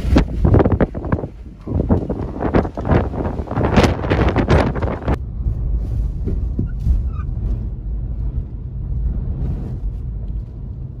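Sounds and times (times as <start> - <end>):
car engine and road noise: 0.0 - 11.0
wind outside car: 0.0 - 11.0.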